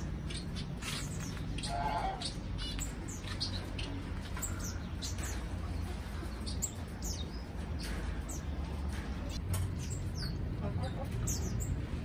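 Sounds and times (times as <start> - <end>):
finches chirping: 0.0 - 10.4.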